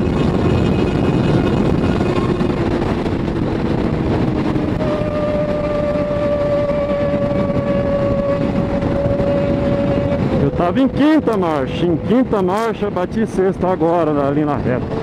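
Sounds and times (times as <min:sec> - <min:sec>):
motorcycle engine running at speed: 0:00.0 - 0:15.0
wind rush on microphone: 0:00.0 - 0:15.0.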